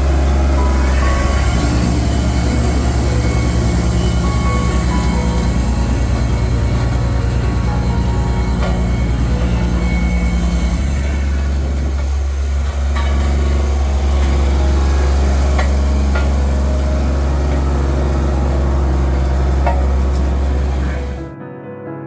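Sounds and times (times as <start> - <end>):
diesel engine running: 0.0 - 21.4.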